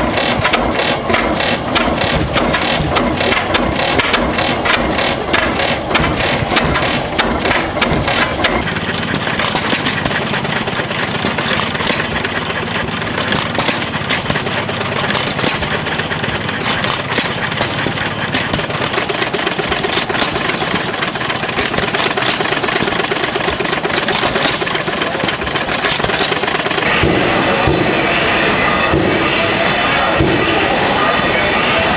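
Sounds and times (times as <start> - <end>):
stationary engines clattering: 0.0 - 31.9.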